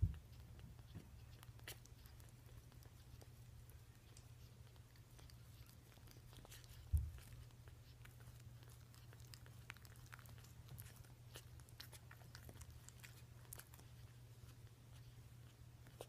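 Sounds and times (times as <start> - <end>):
low steady hum: 0.0 - 16.0
puppies suckling clicks: 0.0 - 16.0.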